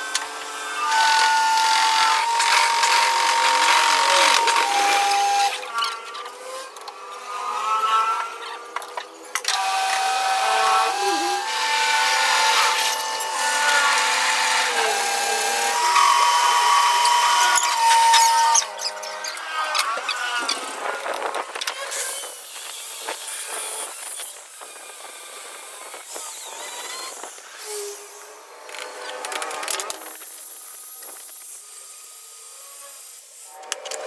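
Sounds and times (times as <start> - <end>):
power tool whining on metal: 0.0 - 34.0.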